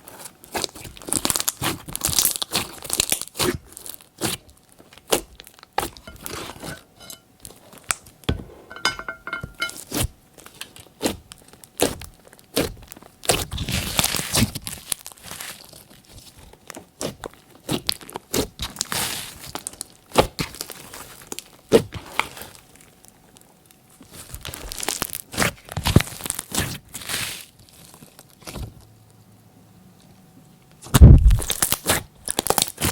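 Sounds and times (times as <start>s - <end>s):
wet slime squishing: 0.1s - 6.8s, 9.9s - 23.0s, 24.0s - 28.7s, 31.0s - 32.9s.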